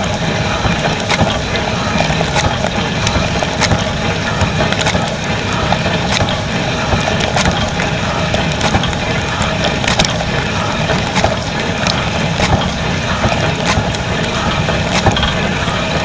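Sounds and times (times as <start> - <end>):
sharp ticks and knocks: 0.0 - 15.6
dishwasher spraying water: 0.0 - 16.0.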